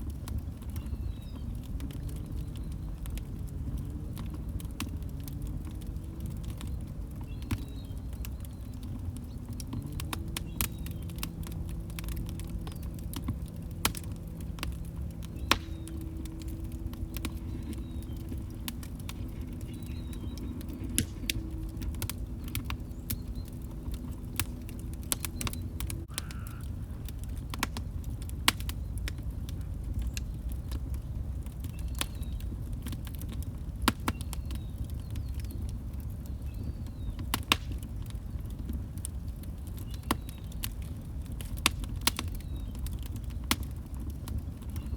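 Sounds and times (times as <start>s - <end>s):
log fire crackling: 0.0s - 44.9s.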